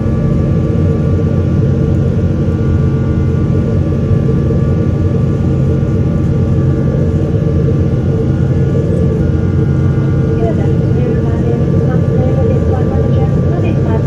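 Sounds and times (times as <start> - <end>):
aircraft cabin engine rumble: 0.0 - 14.0
faint steady whining tones: 0.0 - 14.0.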